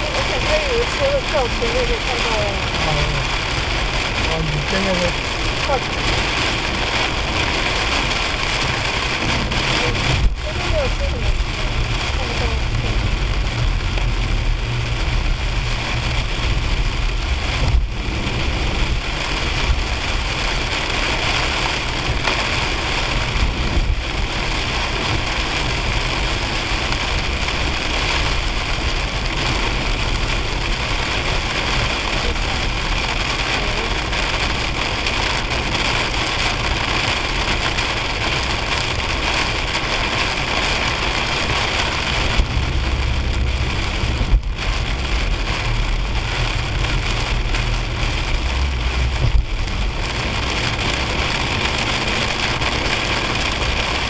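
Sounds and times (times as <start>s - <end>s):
rain on car windshield: 0.0s - 54.0s
tyres and engine rumbling: 0.0s - 54.0s.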